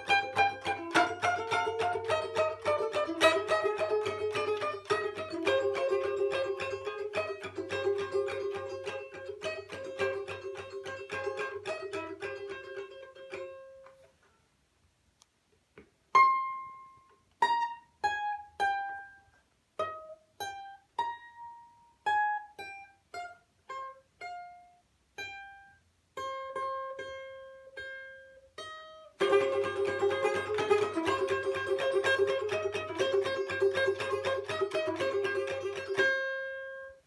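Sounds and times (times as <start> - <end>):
balalaika plucked notes: 0.0 - 14.0, 16.1 - 37.0
balalaika strumming: 0.0 - 14.1, 16.1 - 37.0.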